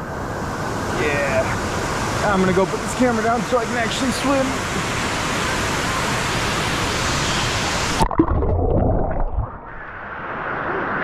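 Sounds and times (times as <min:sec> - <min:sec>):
waterfall rushing into pool: 0:00.4 - 0:11.0.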